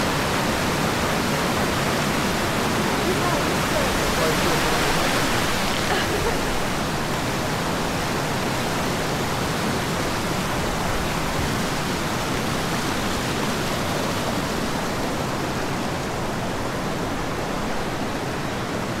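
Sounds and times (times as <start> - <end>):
creek water pouring over rocks: 0.0 - 18.4.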